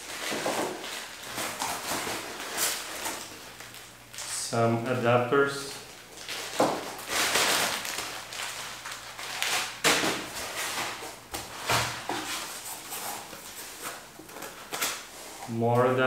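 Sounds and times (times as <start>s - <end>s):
bubble wrap crinkling: 0.0s - 5.0s, 5.6s - 16.0s.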